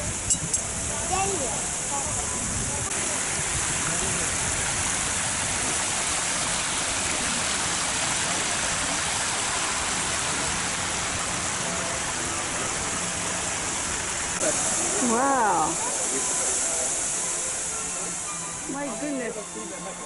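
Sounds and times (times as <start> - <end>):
geyser spraying water and steam: 0.0 - 20.0.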